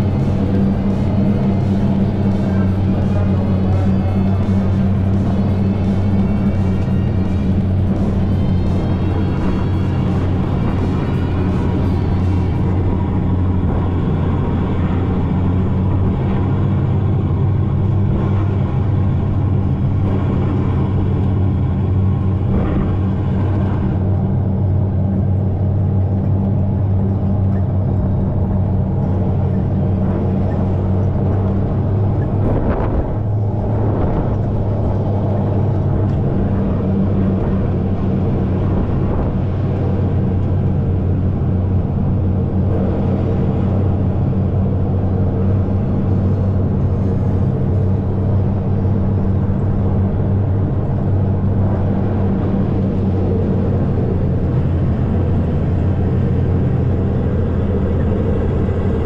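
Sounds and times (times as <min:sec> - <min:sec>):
road rumble: 0:00.0 - 0:59.0
wind on microphone: 0:00.0 - 0:59.0.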